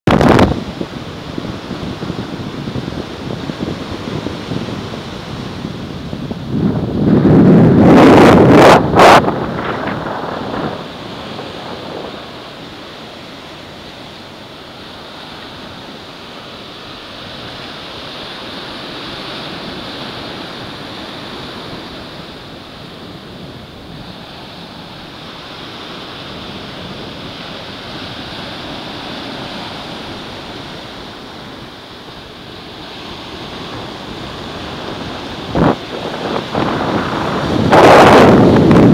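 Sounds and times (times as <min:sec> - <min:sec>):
surf washing onto a beach: 0:00.1 - 0:38.9
wind buffeting microphone: 0:00.1 - 0:38.9.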